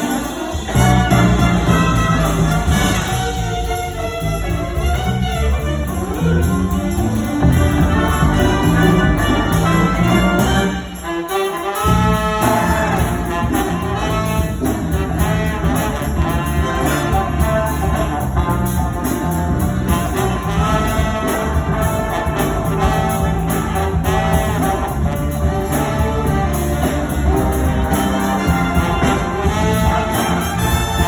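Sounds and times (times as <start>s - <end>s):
jazz band playing: 0.0s - 31.0s.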